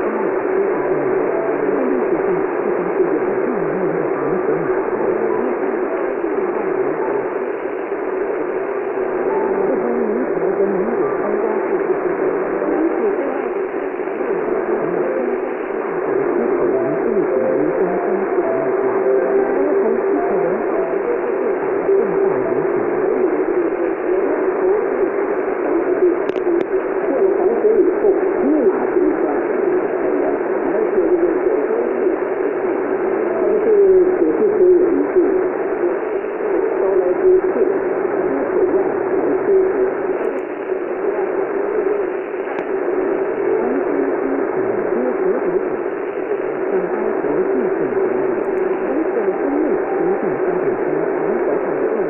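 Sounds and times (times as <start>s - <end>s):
faint radio broadcast: 0.0s - 52.0s
radio static and interference: 0.0s - 52.0s
steady hum: 0.0s - 52.0s.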